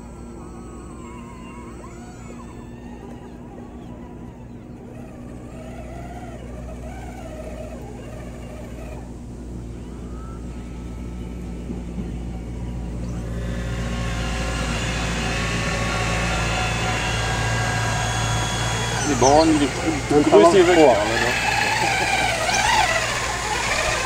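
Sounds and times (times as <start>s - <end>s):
model excavator drive humming: 0.0s - 24.0s.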